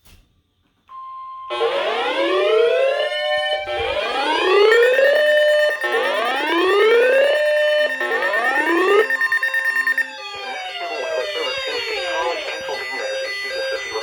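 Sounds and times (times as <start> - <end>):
electronic siren rising whoop: 1.5 - 14.0
steady high tone: 1.5 - 14.0.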